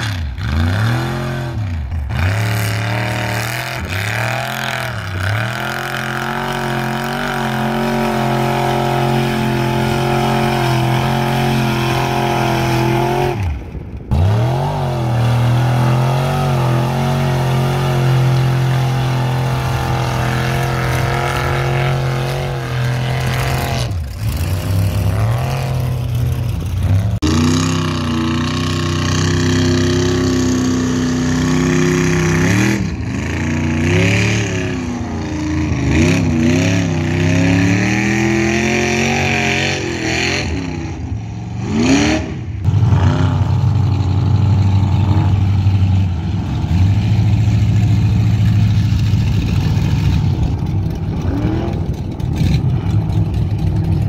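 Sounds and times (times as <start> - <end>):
pickup truck engine revving: 0.0 - 54.0.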